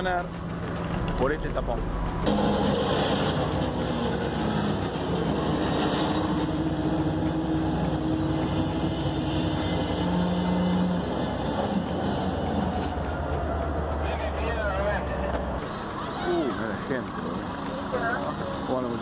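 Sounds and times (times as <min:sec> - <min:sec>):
diesel locomotive engine droning: 0:00.0 - 0:19.0.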